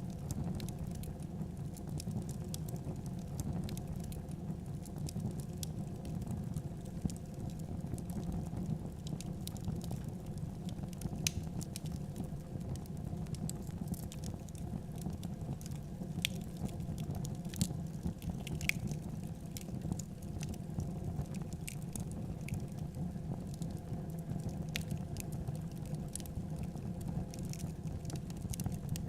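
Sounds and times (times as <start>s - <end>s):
fire crackling and popping: 0.0s - 29.0s
low rumble of flame: 0.0s - 29.0s.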